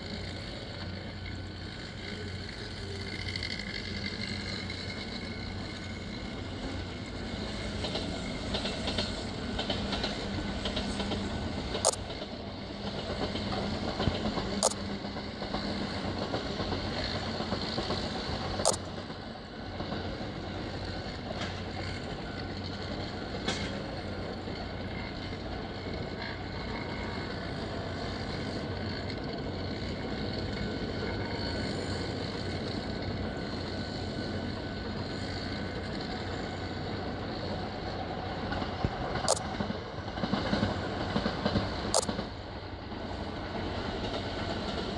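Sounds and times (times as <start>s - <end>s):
machinery humming: 0.0s - 44.9s.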